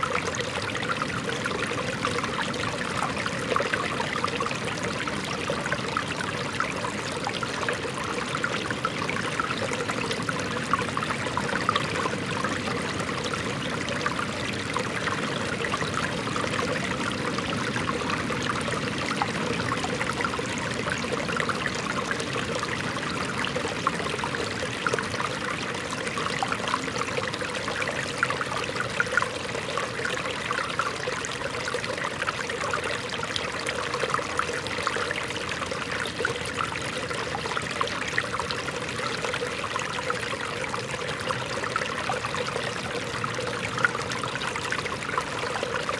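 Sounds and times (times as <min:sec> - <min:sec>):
stream running over rocks: 0:00.0 - 0:45.9.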